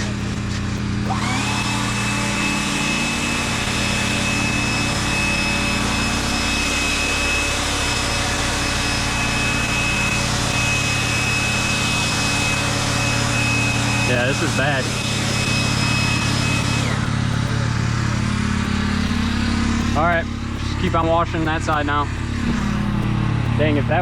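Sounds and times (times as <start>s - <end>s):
loud hiss with high whine: 0.0s - 23.7s
pressure washer engine running: 0.0s - 24.0s.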